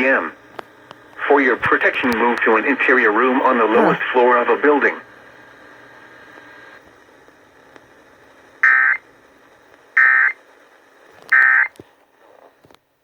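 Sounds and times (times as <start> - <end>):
faint radio hiss: 0.0 - 13.0.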